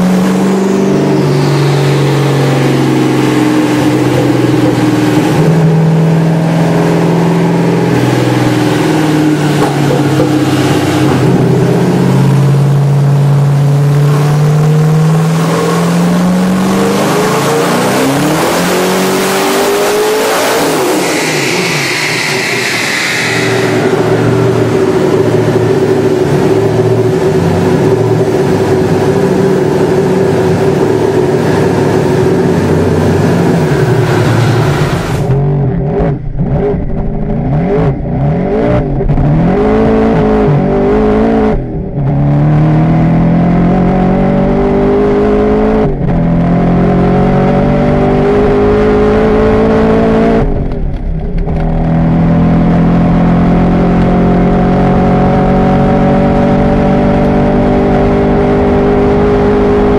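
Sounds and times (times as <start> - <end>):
car accelerating through gears: 0.0 - 36.8, 37.4 - 50.5, 51.8 - 59.9
car engine revving on dyno: 0.0 - 50.6, 51.6 - 59.9.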